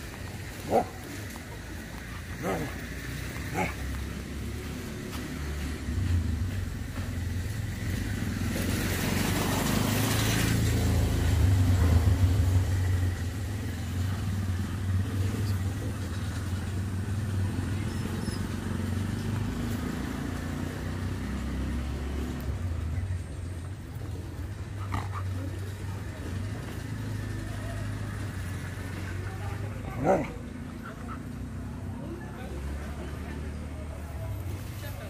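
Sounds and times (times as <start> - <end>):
low engine rumble of traffic: 0.0 - 35.0
motor vehicle passing close: 0.0 - 35.0.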